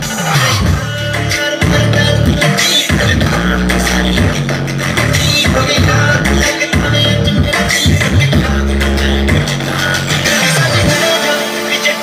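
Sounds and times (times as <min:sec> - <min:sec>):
loud music with pulsing bass: 0:00.0 - 0:12.0.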